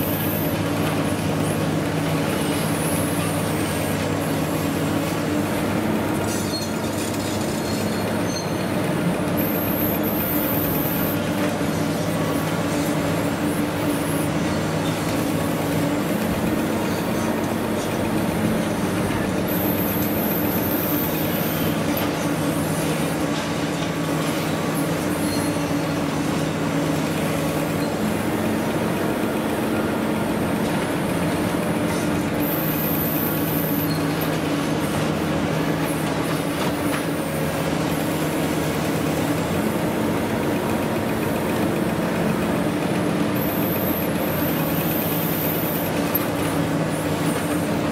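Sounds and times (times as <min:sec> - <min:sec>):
excavator diesel engine hum: 0:00.0 - 0:47.9.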